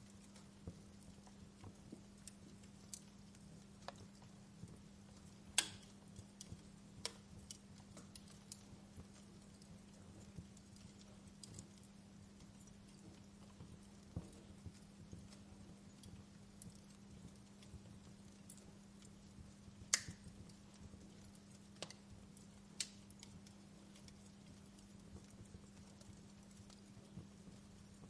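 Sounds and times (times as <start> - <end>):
faint low hum: 0.0 - 28.0
wood fire crackling: 0.0 - 28.0.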